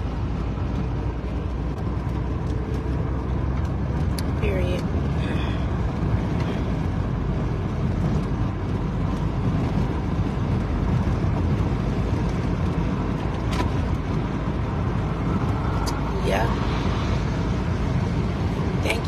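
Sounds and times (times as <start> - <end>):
car cabin road and engine noise: 0.0 - 19.0.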